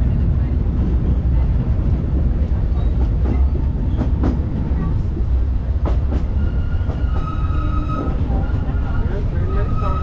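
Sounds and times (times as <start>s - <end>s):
train rumbling along track: 0.0s - 10.0s.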